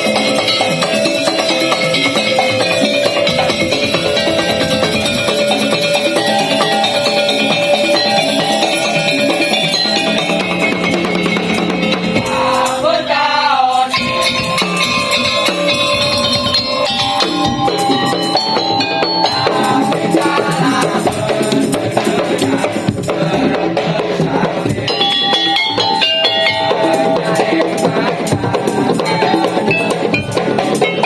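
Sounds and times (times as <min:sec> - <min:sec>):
drums and rattles: 0:00.0 - 0:13.1, 0:13.8 - 0:31.0
held melody line: 0:00.0 - 0:31.0.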